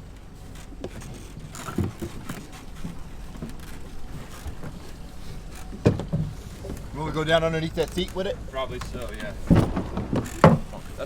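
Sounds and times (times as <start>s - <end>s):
kayaks knocking and thumping: 0.0s - 11.0s.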